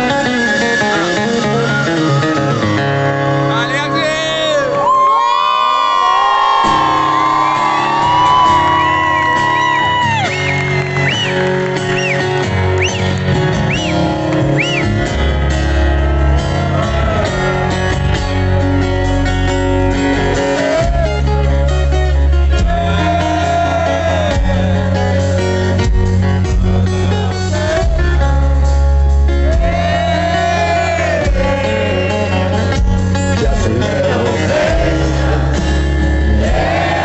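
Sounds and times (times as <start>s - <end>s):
rock band with guitar lead: 0.0s - 5.2s, 5.8s - 37.0s.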